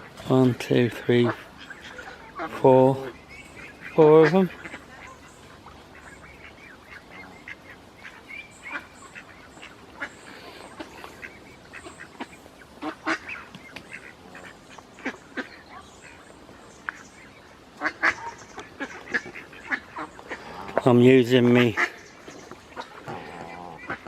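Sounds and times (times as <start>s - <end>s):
geese and waterfowl calling: 0.0s - 24.0s.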